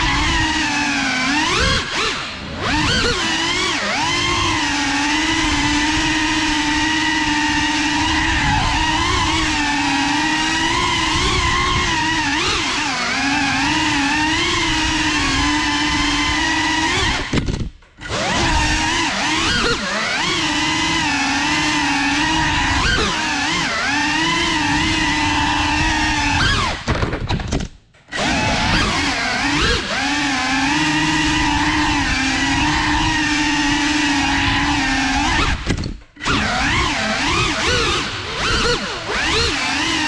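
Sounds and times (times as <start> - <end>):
drone motors whining: 0.0 - 27.1, 28.0 - 40.0.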